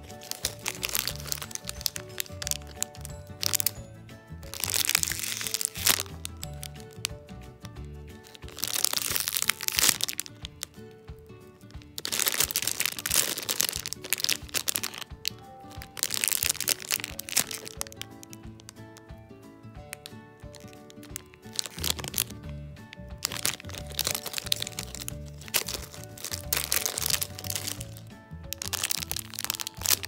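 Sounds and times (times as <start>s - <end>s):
plastic bag crinkling: 0.0s - 3.8s, 4.4s - 7.2s, 8.2s - 10.9s, 11.7s - 18.8s, 19.9s - 30.0s
background music: 0.0s - 30.0s.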